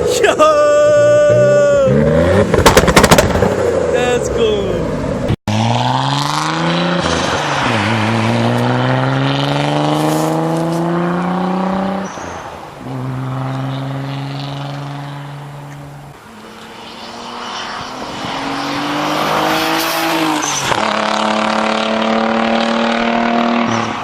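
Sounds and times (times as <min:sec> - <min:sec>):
car engine accelerating hard: 0:00.7 - 0:24.0.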